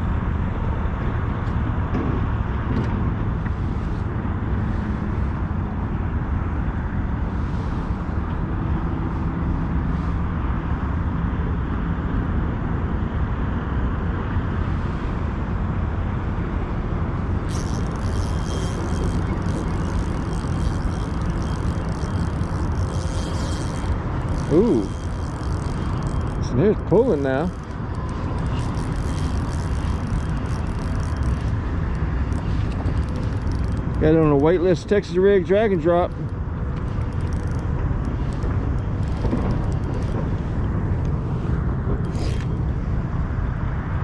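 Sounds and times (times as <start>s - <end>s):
low outdoor rumble: 0.0s - 44.0s.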